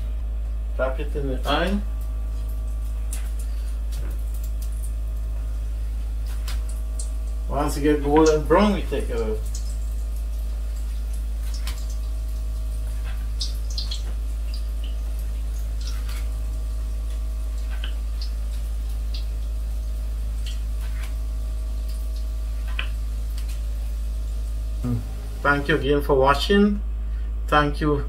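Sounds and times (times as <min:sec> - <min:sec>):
dough frying in hot oil: 0:00.0 - 0:26.0
low steady hum: 0:00.0 - 0:28.0
oil popping and crackling: 0:01.4 - 0:25.8.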